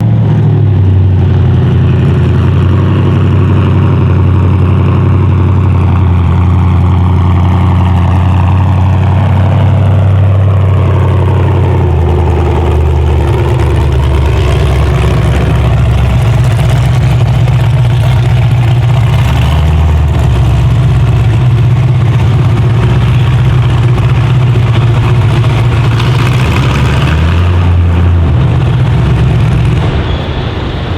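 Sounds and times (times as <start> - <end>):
loud engine running hard: 0.0 - 30.9.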